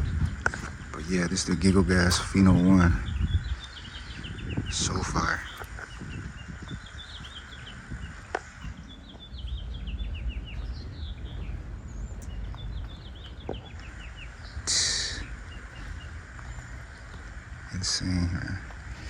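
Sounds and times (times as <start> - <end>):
low wind rumble: 0.0 - 19.0
songbird chirping: 0.0 - 19.0.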